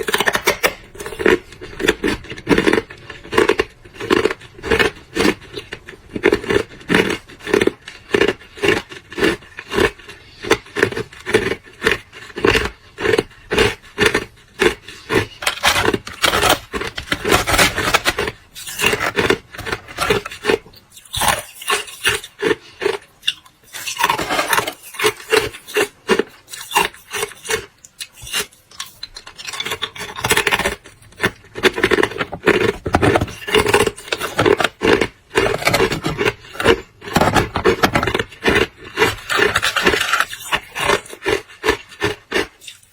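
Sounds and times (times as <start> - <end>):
ice crunching while chewed: 0.0 - 42.9.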